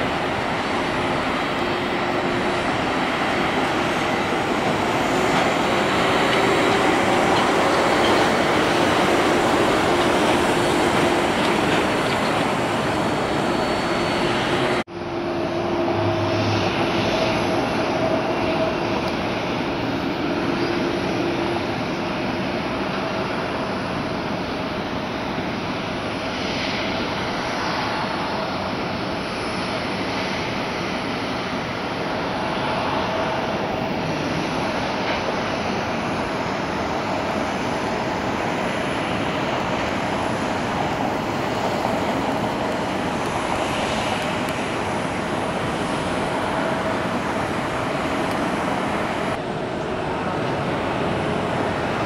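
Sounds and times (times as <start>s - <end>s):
jet engines rushing: 0.0s - 52.0s.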